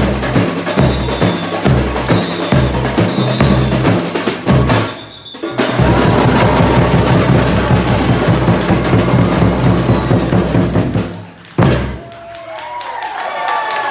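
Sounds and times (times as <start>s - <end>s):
samba percussion with bass drums: 0.0s - 12.1s.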